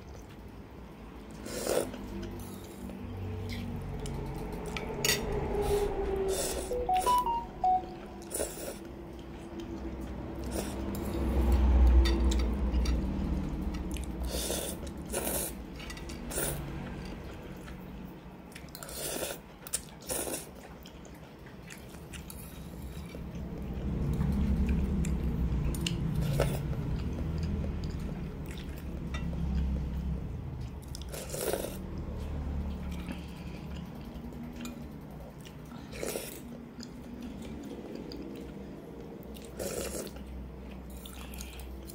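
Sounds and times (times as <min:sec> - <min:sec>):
slurping and chewing noodles: 0:00.0 - 0:06.8, 0:08.2 - 0:41.9.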